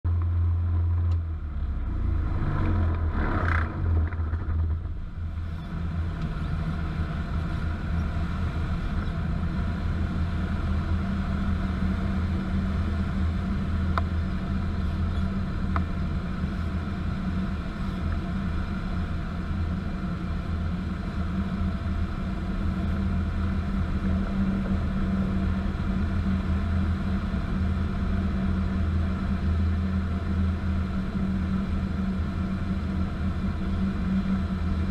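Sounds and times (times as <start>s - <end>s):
light aircraft rumble in cockpit: 0.1s - 34.9s.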